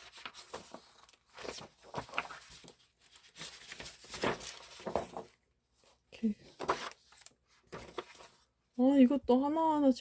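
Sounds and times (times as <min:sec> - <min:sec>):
paper rustling and crinkling: 0:00.0 - 0:08.6.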